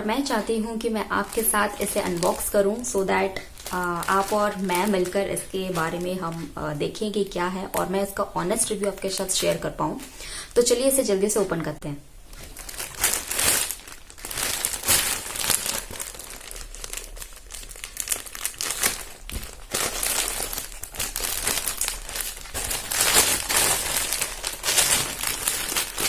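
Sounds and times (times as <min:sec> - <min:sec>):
plastic packaging crinkling: 0:00.0 - 0:10.9, 0:12.2 - 0:26.0.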